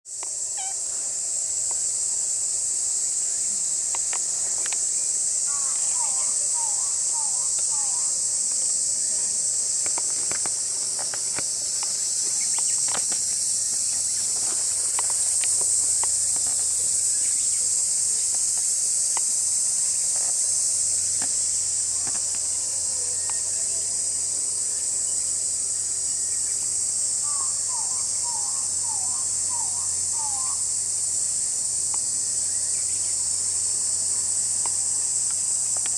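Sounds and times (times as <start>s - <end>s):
insects droning: 0.1s - 35.9s.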